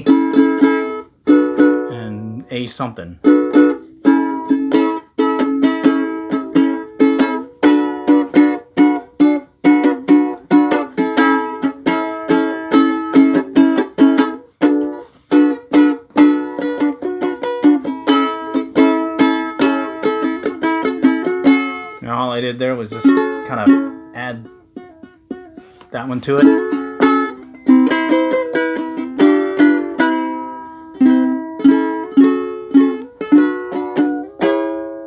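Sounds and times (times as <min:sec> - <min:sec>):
ukulele strumming chords: 0:00.0 - 0:35.0.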